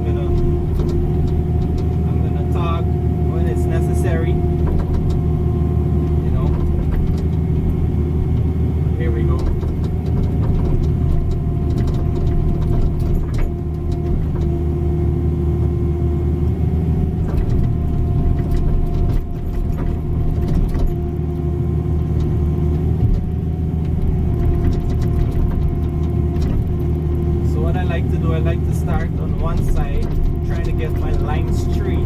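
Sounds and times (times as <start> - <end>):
diesel engine running: 0.0 - 32.0
engine whine: 0.0 - 32.0.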